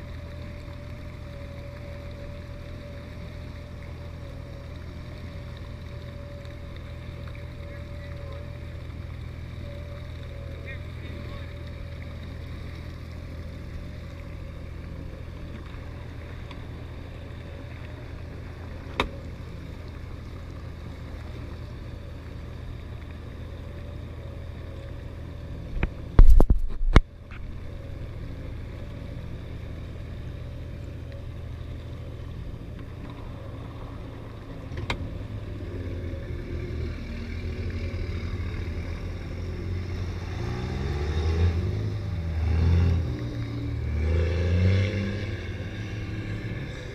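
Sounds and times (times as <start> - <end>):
car exhaust idling drone: 0.0 - 46.9.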